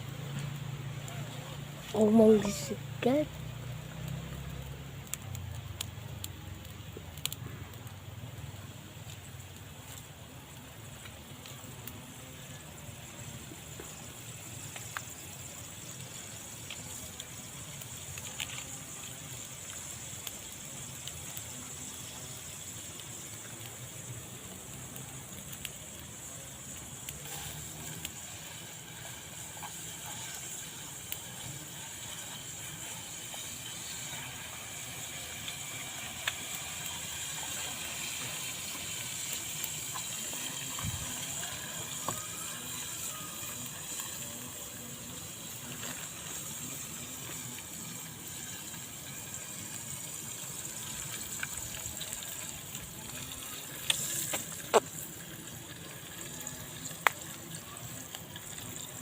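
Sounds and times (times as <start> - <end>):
oil sizzling in a frying pan: 0.0 - 59.0.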